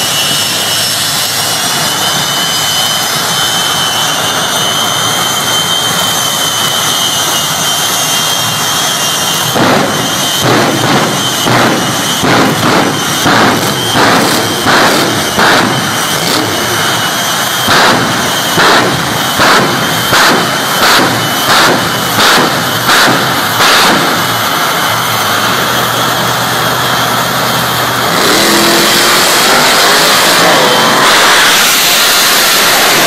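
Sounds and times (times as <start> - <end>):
loud vehicle engines: 0.0 - 33.0
short engine bursts: 0.0 - 33.0.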